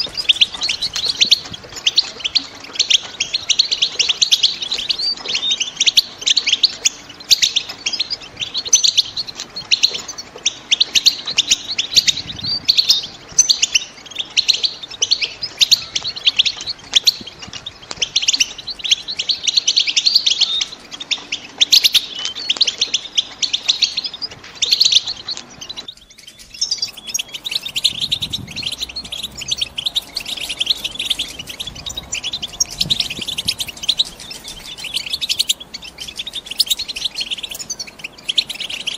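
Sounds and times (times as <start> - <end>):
birds twittering: 0.0 - 38.9.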